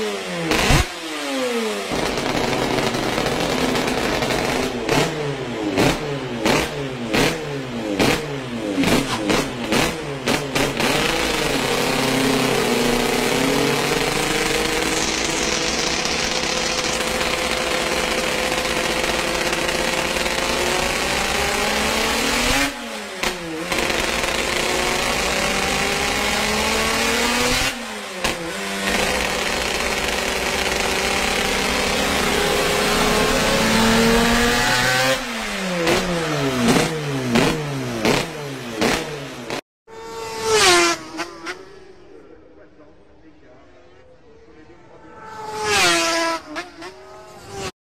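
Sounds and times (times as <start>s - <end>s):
two-stroke engine revving: 0.0s - 42.0s, 45.1s - 47.8s
engine throttle blips: 0.0s - 47.7s.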